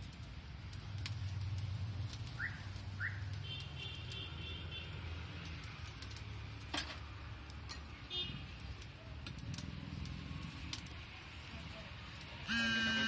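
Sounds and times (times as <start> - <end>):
low street hum: 0.0 - 13.0.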